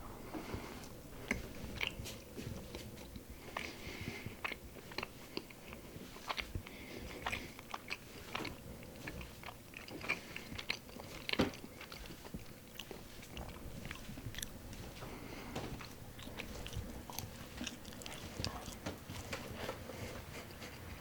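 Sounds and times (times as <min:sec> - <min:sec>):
crunchy crust crackles: 0:00.0 - 0:21.0
chewing bread: 0:00.3 - 0:21.0.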